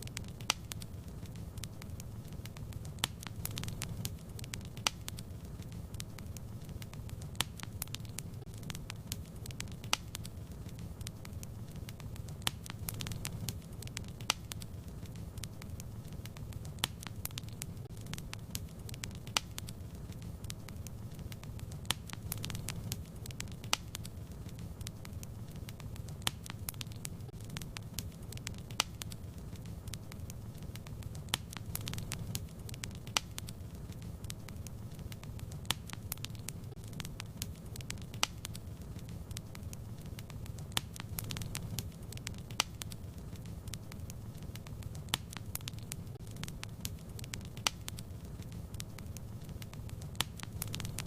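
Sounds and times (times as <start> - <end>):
fire crackling and popping: 0.0 - 51.0.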